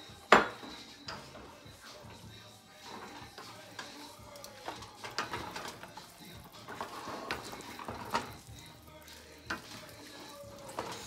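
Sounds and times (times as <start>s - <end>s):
wooden spoons scraping a wok: 0.0s - 11.0s.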